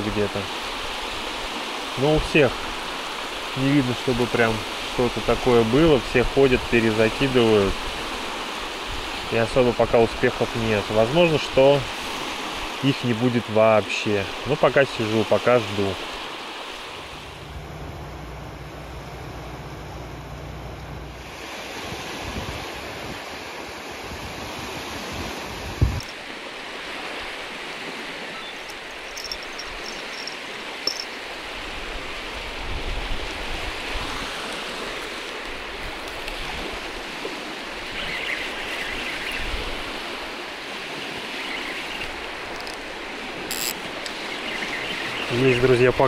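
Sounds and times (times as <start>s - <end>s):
small waves lapping: 0.0s - 45.9s
wind: 0.0s - 46.0s.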